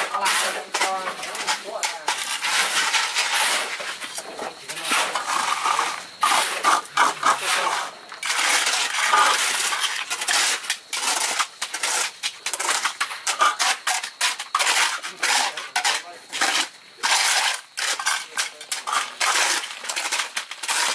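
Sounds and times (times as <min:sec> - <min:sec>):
shovels scraping concrete mix: 0:00.0 - 0:20.9.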